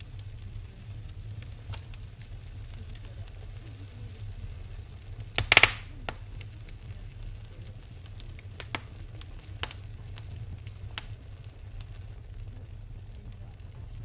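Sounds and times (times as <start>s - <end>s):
low rumble of fire: 0.0s - 14.0s
wood fire crackling and popping: 0.0s - 14.0s.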